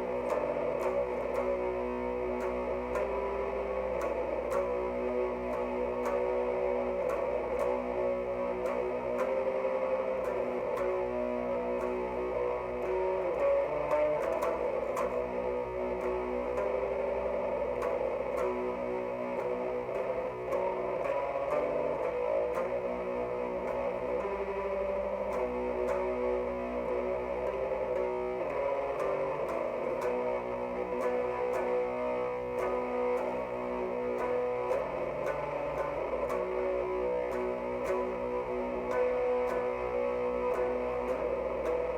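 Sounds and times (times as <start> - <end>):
distorted electric guitar chords: 0.0 - 41.9.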